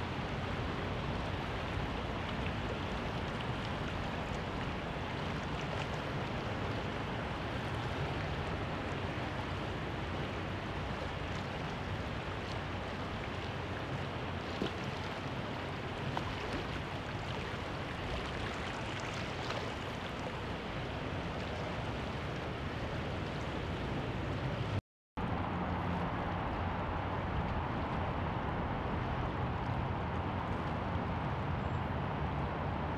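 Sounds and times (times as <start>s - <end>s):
distant traffic: 0.0s - 32.9s
water: 0.0s - 32.9s.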